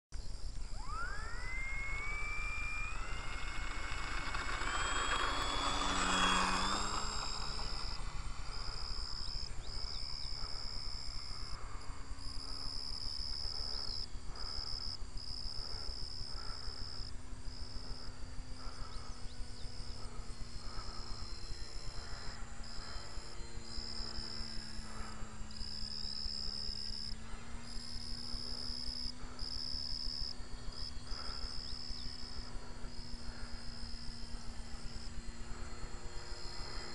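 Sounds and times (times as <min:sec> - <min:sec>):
model plane motor whining: 0:00.2 - 0:36.9
steady high buzz: 0:00.2 - 0:36.9.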